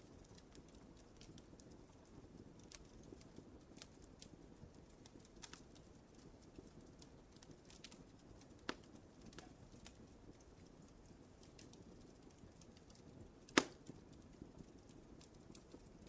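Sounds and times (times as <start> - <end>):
fire pops: 0.0 - 16.0
wood fire crackling: 0.0 - 16.0.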